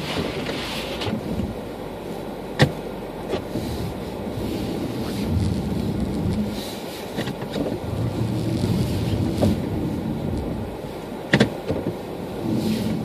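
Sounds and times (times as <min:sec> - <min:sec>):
car tyres and engine rumble: 0:00.0 - 0:13.0.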